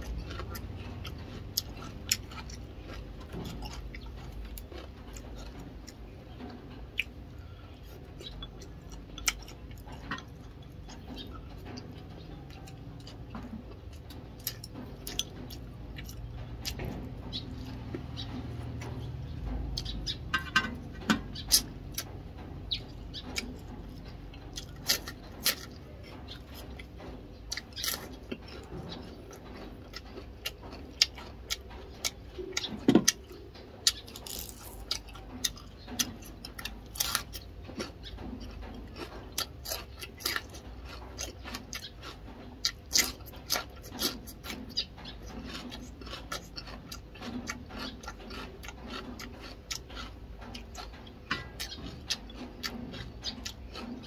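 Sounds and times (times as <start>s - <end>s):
person chewing with mouth clicks: 0.0s - 7.2s, 7.8s - 22.1s, 22.8s - 54.0s.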